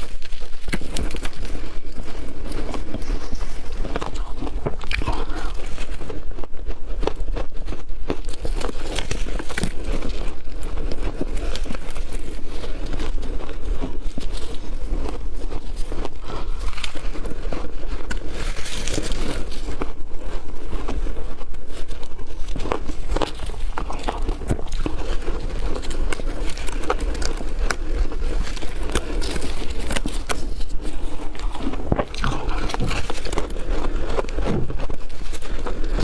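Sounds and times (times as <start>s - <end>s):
ice crunching: 0.0s - 36.0s.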